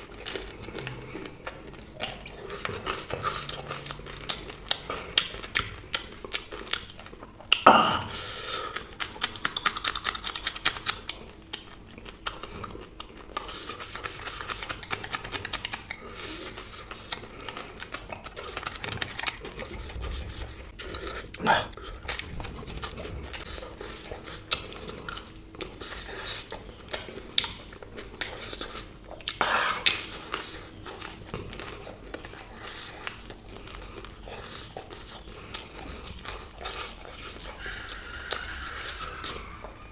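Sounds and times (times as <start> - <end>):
crisp food being chewed: 0.0 - 7.6, 8.2 - 39.9.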